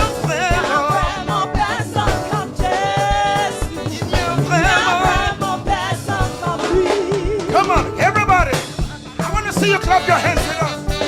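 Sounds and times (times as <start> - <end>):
gospel choir singing: 0.0 - 11.0
music accompaniment: 0.0 - 11.0.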